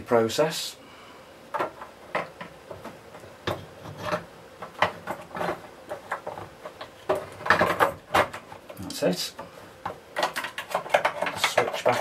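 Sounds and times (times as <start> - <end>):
plastic knocks and scrapes: 1.5 - 8.8, 9.4 - 12.0.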